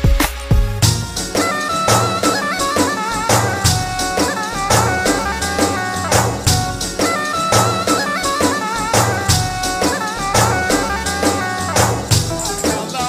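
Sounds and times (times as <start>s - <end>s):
drum and tambourine beat: 0.0s - 13.0s
folk dance music on keyboard: 0.6s - 13.0s
trilled lead melody: 0.6s - 13.0s.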